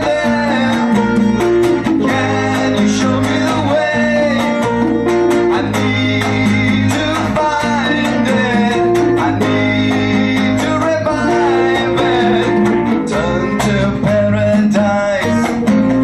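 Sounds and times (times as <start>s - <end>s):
bass: 0.0s - 16.0s
electric lead guitar: 0.0s - 16.0s
percussion beat: 0.0s - 16.0s
strummed acoustic guitar: 0.0s - 16.0s.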